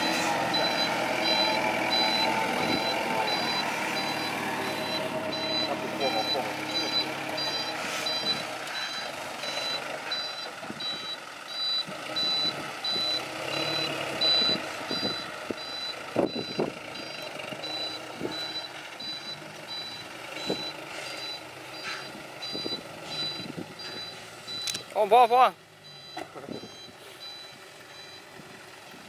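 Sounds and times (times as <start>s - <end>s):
reversing alarm beeping: 0.0s - 24.8s, 25.8s - 28.3s.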